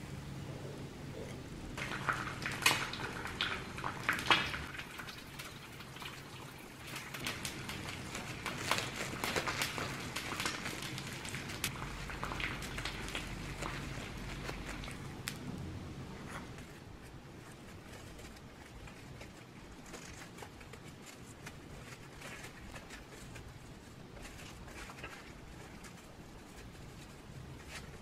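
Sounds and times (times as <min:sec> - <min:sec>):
low steady hum: 0:00.0 - 0:28.0
cling film crinkling: 0:01.8 - 0:15.5, 0:16.2 - 0:28.0.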